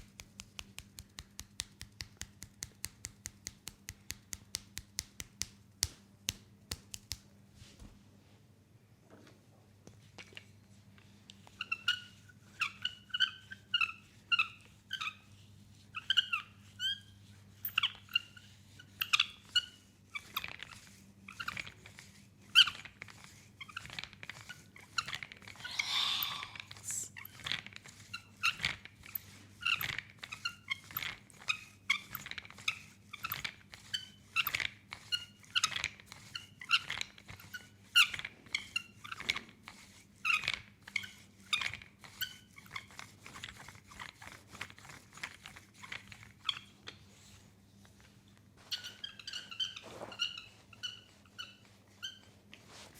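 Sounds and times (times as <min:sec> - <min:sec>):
hands squeaking on oiled skin: 0:00.0 - 0:07.2, 0:11.4 - 0:47.4, 0:48.6 - 0:52.9.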